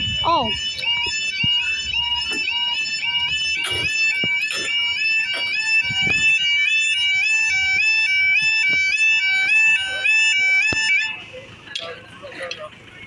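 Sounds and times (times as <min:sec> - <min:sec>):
level crossing alarm warbling: 0:00.0 - 0:11.3.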